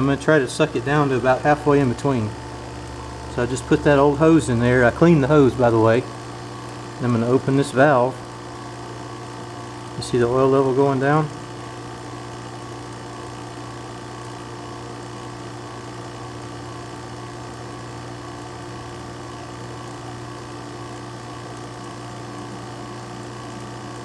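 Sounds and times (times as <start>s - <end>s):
vacuum pump humming: 0.0s - 24.0s.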